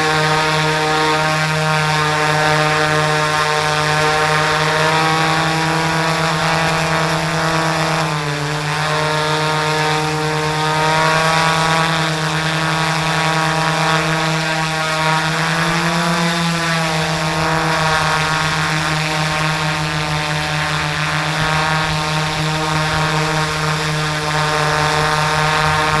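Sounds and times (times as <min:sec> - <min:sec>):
drone motors buzzing: 0:00.0 - 0:26.0.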